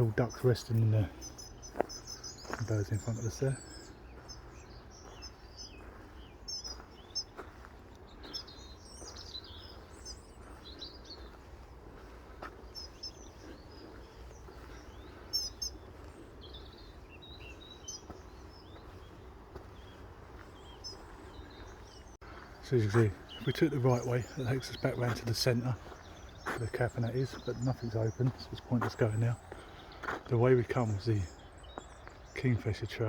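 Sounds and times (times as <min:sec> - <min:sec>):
faint outdoor background noise: 0:00.0 - 0:33.0
songbirds chirping and trilling: 0:00.0 - 0:33.0.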